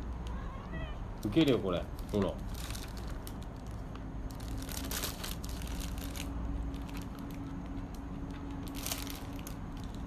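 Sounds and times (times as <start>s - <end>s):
plastic packaging crinkling: 1.8s - 10.0s.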